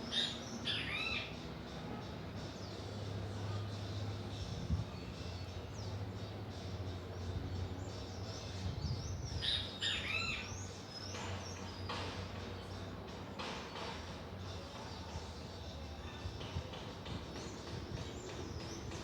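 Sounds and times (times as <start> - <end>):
small birds chirping: 2.4 - 19.0.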